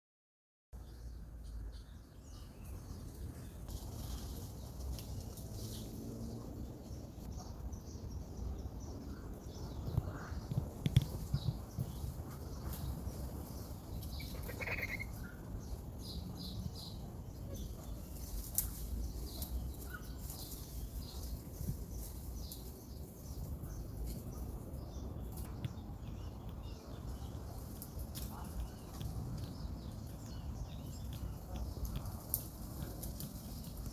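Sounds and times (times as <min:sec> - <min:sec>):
wind rumble on microphone: 0:00.9 - 0:33.9.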